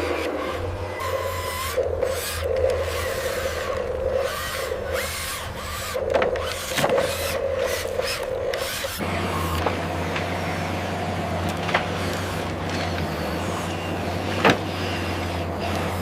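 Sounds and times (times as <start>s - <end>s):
deep engine-like drone: 0.0s - 16.0s
low motor hum: 0.0s - 16.0s.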